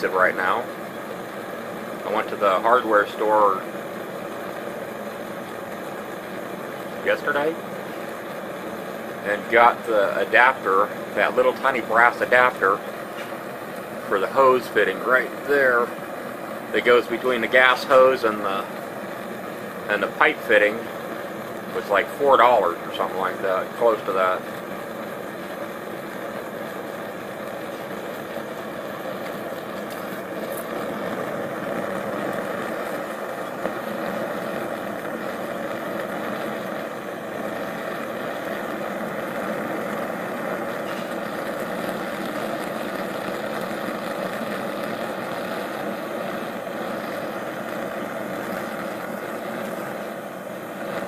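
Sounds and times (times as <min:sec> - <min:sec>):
gas forge burner rushing: 0:00.0 - 0:51.0.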